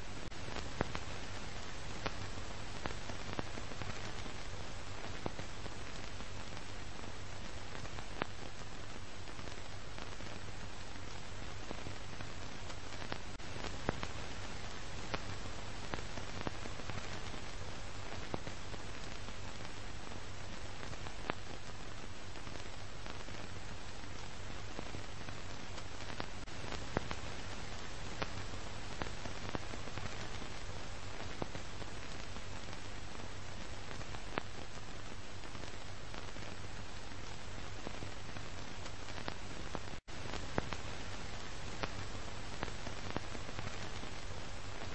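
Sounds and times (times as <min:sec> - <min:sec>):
film soundtrack hiss and crackle: 0:00.0 - 0:44.9
scattered pops: 0:00.0 - 0:44.9.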